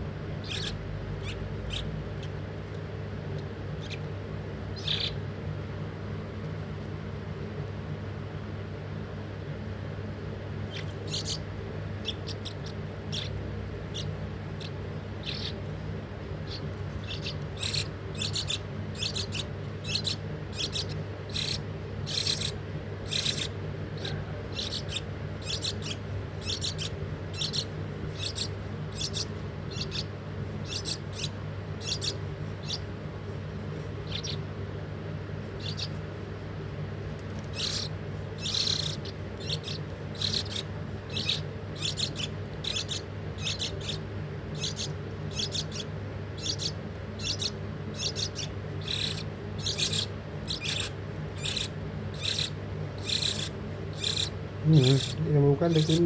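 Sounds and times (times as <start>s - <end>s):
young bird chirping: 0.3s - 5.3s, 10.6s - 36.3s, 37.0s - 56.0s.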